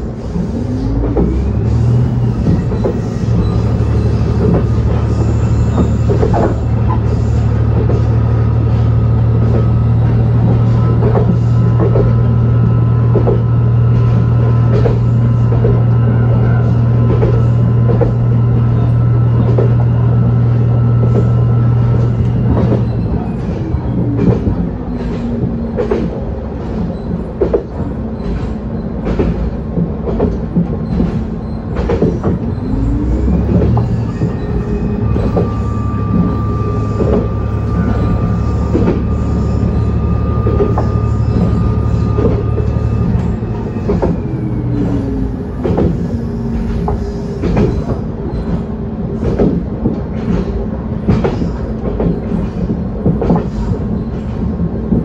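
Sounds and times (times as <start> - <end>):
railcar engine drone: 0.0 - 55.0.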